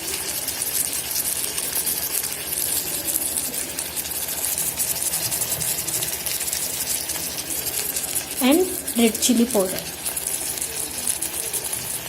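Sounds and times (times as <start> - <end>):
masala sizzling in hot oil: 0.0 - 12.0.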